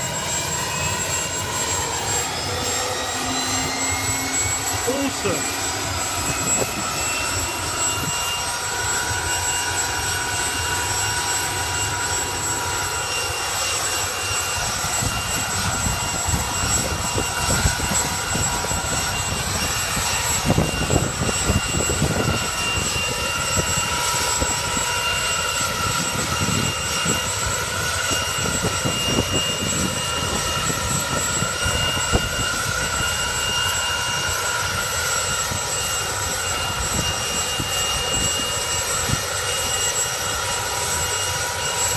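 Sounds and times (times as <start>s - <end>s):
helicopter turbine whine: 0.0s - 41.9s
low uneven rotor rumble: 0.0s - 41.9s.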